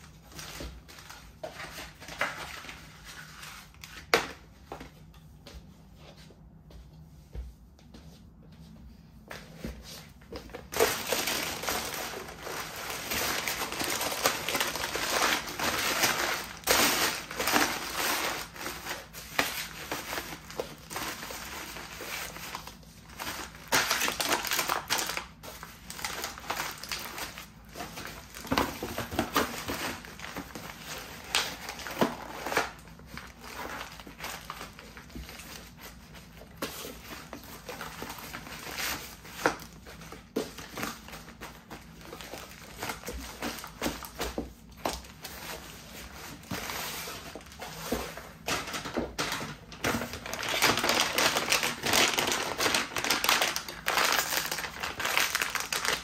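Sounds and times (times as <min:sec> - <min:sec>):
paper and cardboard crinkling: 0:00.0 - 0:04.4, 0:09.4 - 0:56.0.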